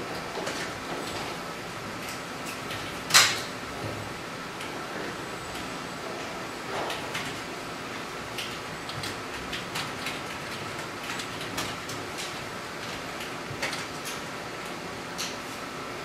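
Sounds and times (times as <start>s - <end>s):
room and equipment hum: 0.0s - 16.0s.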